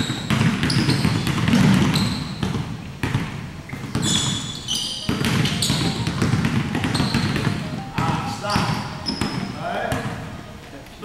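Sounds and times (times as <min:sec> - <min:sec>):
basketballs bouncing on wooden floor: 0:00.0 - 0:10.4
sneakers squeaking on court: 0:00.0 - 0:10.5.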